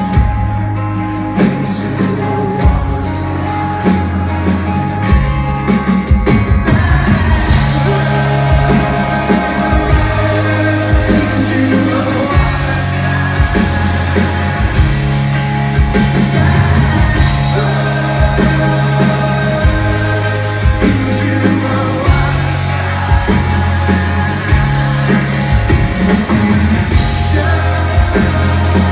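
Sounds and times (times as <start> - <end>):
bass guitar: 0.0 - 28.9
drums: 0.0 - 28.9
electric guitars: 0.0 - 28.9
strummed acoustic guitar: 0.0 - 28.9
person singing: 1.1 - 15.2, 15.8 - 28.9.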